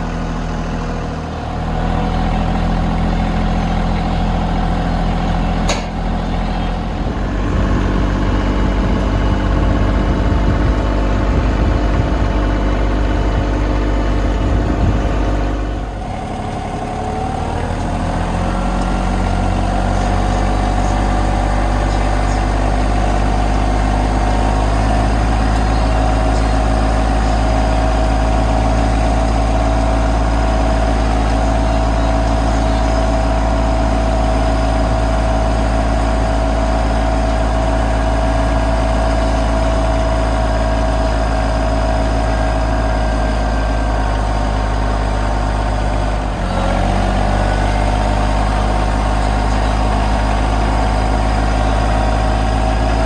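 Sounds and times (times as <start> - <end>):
steady engine note: 0.0 - 53.0
tractor engine idling: 0.0 - 53.0.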